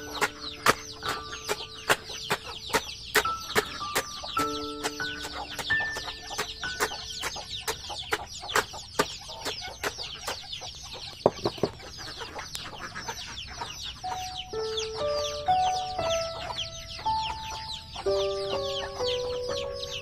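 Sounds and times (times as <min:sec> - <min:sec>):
chickens clucking: 0:00.0 - 0:20.0
chicks peeping: 0:00.0 - 0:20.0.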